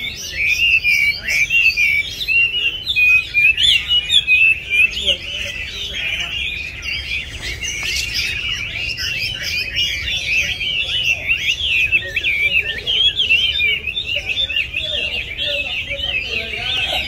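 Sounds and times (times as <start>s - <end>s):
bird warbling song: 0.0s - 17.0s.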